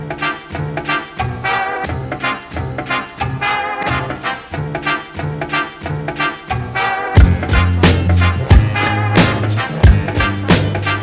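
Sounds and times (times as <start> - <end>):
upbeat background music: 0.0 - 11.0.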